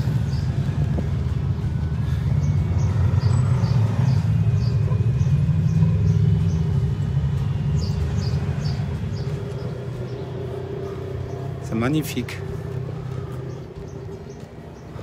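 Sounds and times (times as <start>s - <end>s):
footsteps crunching on gravel: 0.0s - 15.0s
steady low rumble: 0.0s - 15.0s.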